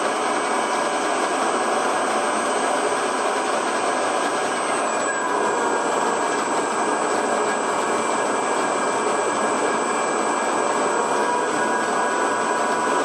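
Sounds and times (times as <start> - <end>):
milling machine running with whine: 0.0 - 13.0.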